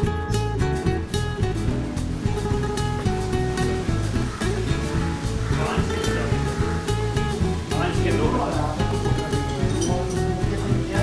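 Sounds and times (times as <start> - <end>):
steady beat: 0.0 - 11.0
strummed guitar: 0.0 - 11.0.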